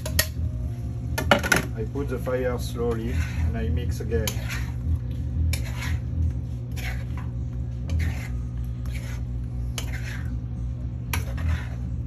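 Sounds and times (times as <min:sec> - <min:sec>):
low hum: 0:00.0 - 0:12.0
utensil stirring thick mixture in pan: 0:02.0 - 0:12.0.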